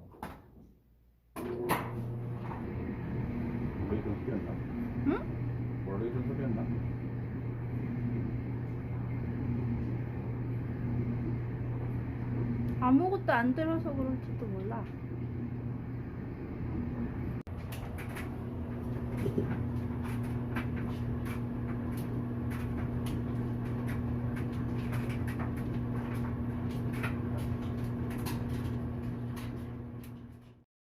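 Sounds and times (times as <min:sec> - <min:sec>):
clothes dryer humming: 0:01.4 - 0:30.6.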